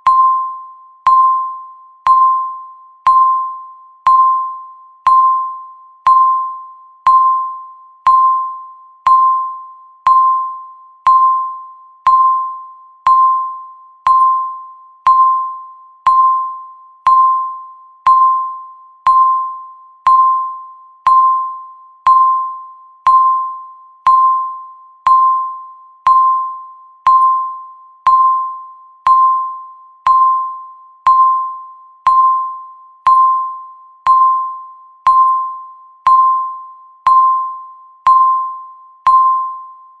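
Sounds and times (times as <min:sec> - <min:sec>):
electronic timer beeps: 0:00.0 - 0:40.0.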